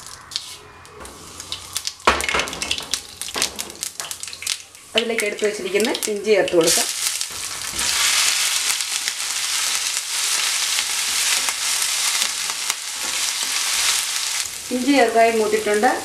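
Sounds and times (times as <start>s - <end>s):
ginger sizzling in hot oil: 0.1s - 16.0s.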